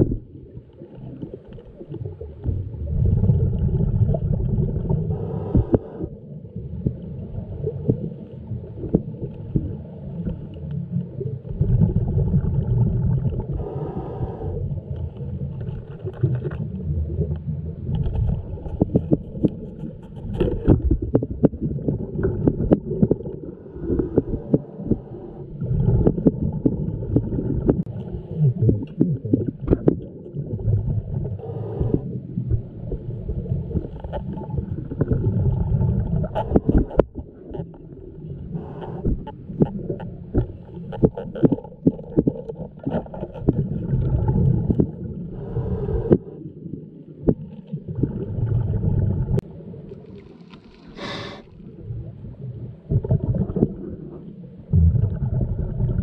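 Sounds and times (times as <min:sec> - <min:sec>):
underwater regulator bubbles: 0:00.0 - 0:56.0.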